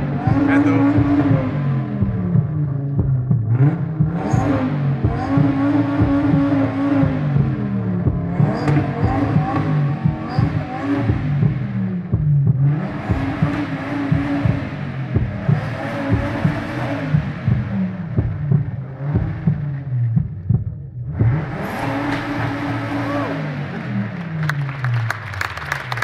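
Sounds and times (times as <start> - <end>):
sports car engine revving: 0.0 - 26.0.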